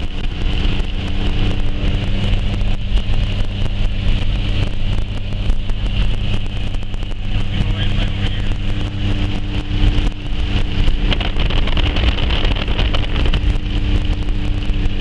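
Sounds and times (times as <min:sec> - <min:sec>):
engine and road hum: 0:00.0 - 0:15.0
storm wind buffeting car: 0:00.0 - 0:15.0.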